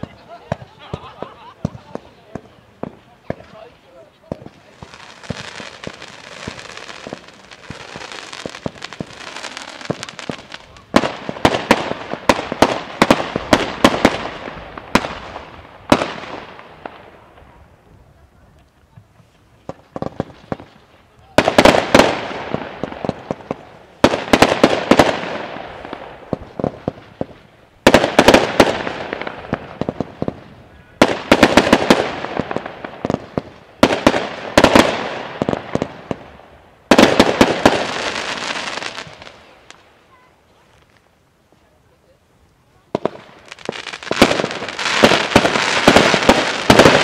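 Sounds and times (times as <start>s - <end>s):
small firework pops: 0.0s - 36.3s, 36.9s - 39.9s
fireworks bursting with loud bangs: 0.0s - 47.0s
fireworks crackling: 0.0s - 47.0s.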